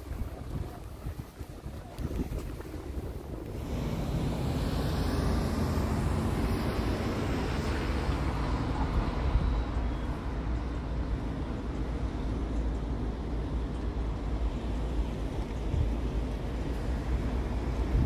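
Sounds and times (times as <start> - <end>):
city hum: 0.0 - 18.0
wind buffeting microphone: 0.0 - 18.0.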